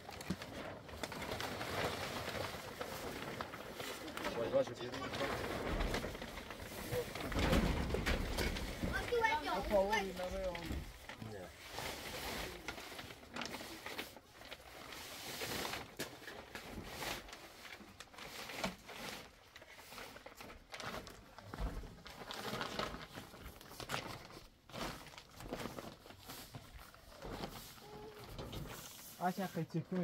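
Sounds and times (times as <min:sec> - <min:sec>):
rustling and crinkling: 0:00.0 - 0:30.0.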